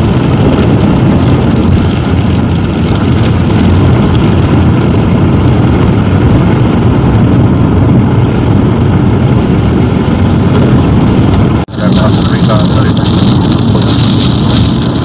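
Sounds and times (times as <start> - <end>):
car driving on wet road: 0.0 - 15.0.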